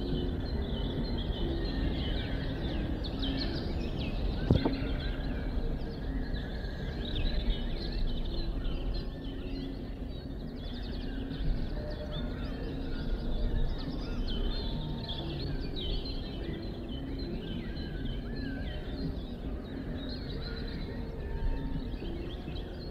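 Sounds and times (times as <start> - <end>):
many birds chirping: 0.0 - 22.9.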